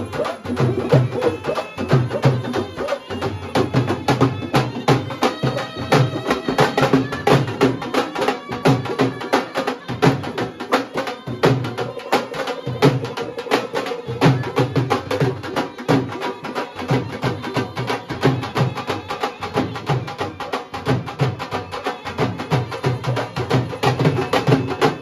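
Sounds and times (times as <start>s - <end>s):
wind instrument holding long notes: 0.0s - 20.9s
dhol drums beaten with sticks: 0.0s - 25.0s.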